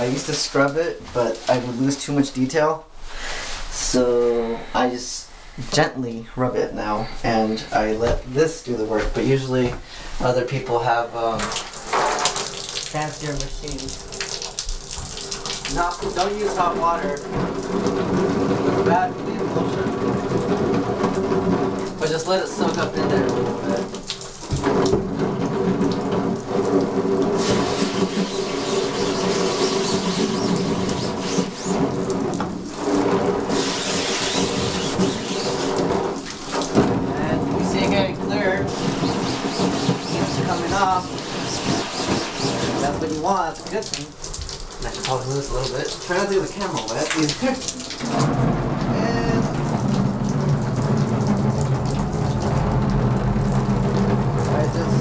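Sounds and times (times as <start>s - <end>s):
water running from faucet: 0.0s - 2.4s, 11.2s - 55.0s.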